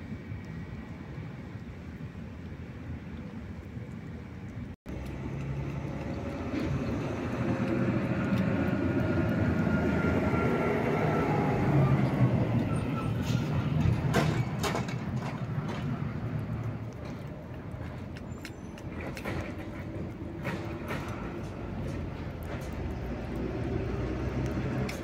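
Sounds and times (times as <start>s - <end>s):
passing vehicle engine hum: 4.9s - 25.0s.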